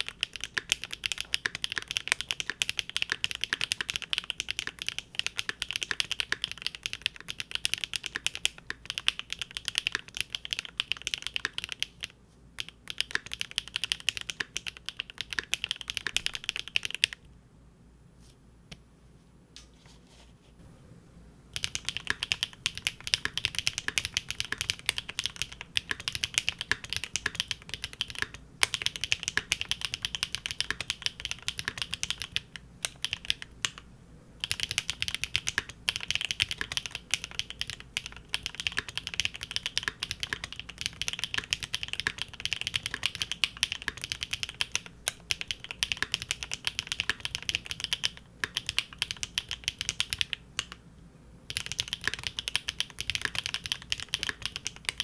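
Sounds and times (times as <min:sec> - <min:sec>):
fast mechanical keyboard typing: 0:00.0 - 0:17.2, 0:21.6 - 0:33.8, 0:34.4 - 0:50.8, 0:51.5 - 0:55.0.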